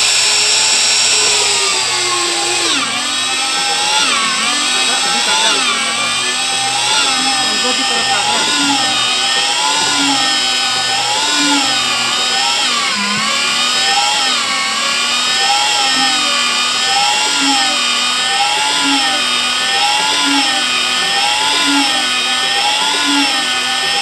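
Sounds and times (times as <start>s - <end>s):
electric motor whine wavering: 0.0s - 24.0s.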